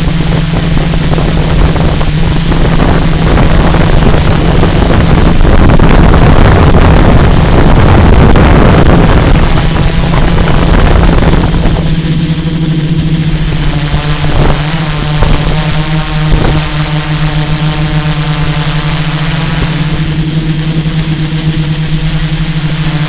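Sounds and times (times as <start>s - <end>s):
drone motors droning: 0.0s - 23.0s
wind on microphone: 0.0s - 23.0s.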